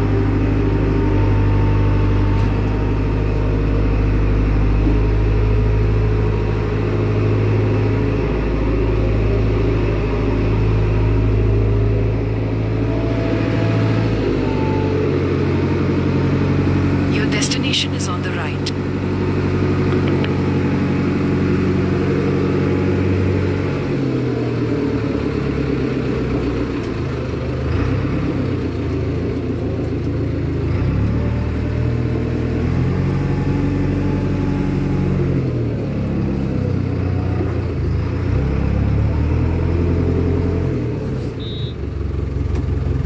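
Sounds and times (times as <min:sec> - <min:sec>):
diesel engine revving: 0:00.0 - 0:43.0.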